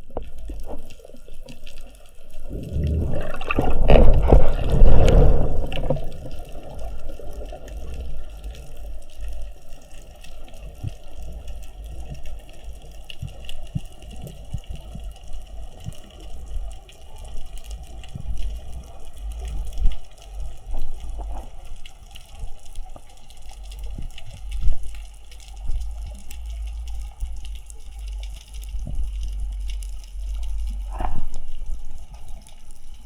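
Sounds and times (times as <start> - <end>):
low underwater rumble: 0.0 - 33.0
water rushing and gurgling: 0.0 - 33.0.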